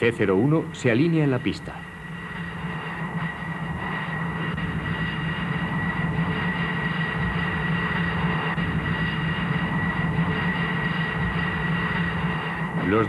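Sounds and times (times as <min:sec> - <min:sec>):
high turbine whine: 0:00.0 - 0:13.0
jet engines roaring: 0:00.0 - 0:13.0.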